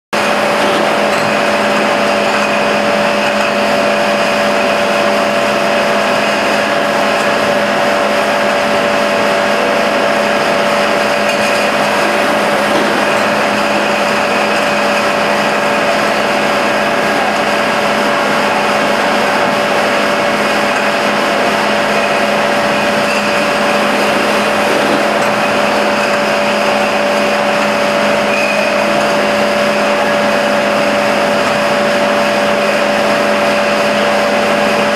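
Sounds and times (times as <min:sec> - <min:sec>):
bottle washing machine running: 0:00.2 - 0:34.9.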